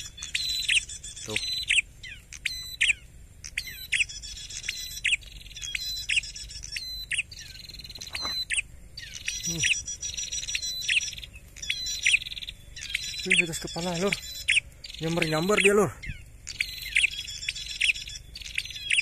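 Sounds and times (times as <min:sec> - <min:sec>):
songbird chirps and trills: 0:00.0 - 0:19.0.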